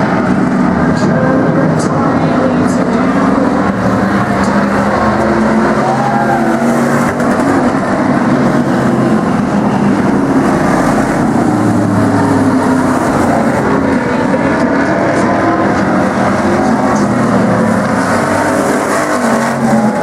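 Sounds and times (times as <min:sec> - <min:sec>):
race engines roaring: 0:00.0 - 0:20.0.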